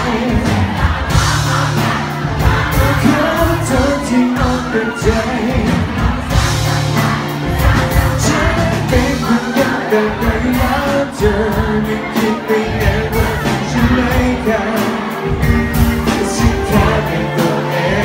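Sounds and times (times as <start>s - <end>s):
live pop band playing: 0.0s - 18.0s
person singing: 0.0s - 18.0s
steady drum beat: 0.0s - 18.0s.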